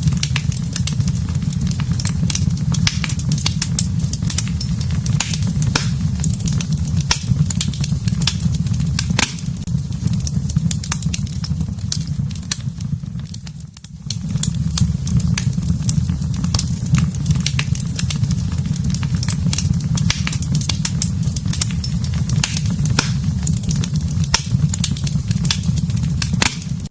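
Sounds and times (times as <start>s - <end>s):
fire crackling and popping: 0.0s - 26.9s
low roar of fire: 0.0s - 26.9s.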